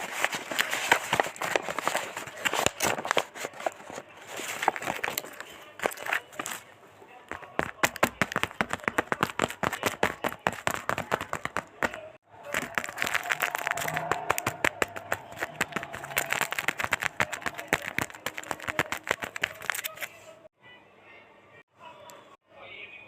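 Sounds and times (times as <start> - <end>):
packaging crinkling and tearing: 0.0 - 6.7, 7.3 - 20.1.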